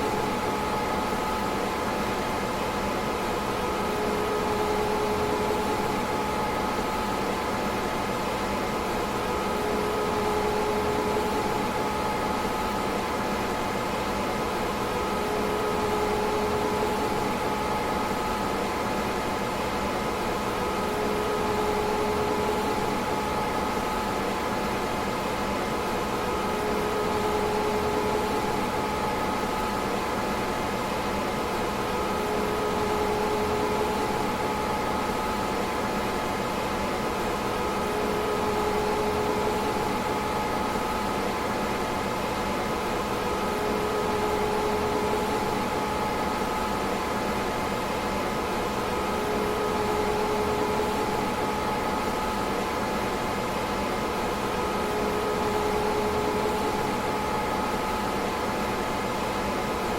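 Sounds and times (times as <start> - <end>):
constant hum: 0.0 - 59.9
cooling fans whirring: 0.0 - 59.9.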